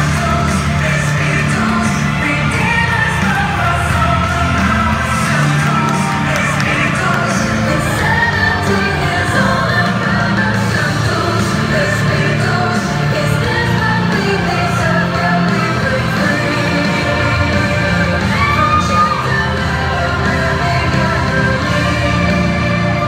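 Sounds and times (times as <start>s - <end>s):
song with singing: 0.0s - 23.0s.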